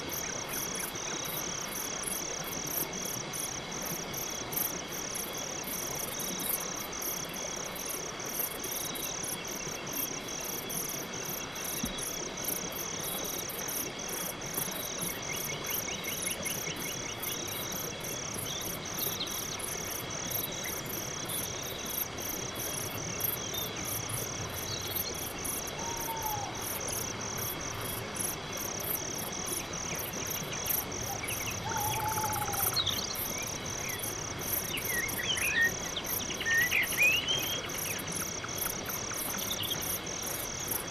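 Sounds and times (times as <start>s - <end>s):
high continuous insect trill: 0.0s - 40.9s
insects chirping rhythmically: 0.0s - 40.9s.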